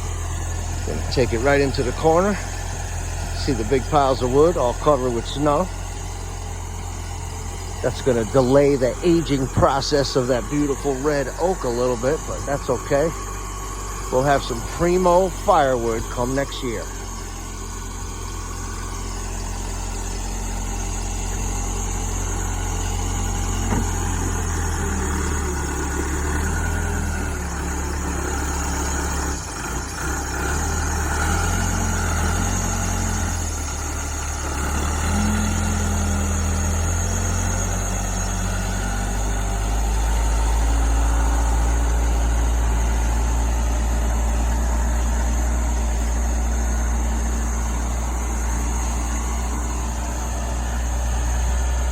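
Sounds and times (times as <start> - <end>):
backhoe engine running: 0.0 - 51.9.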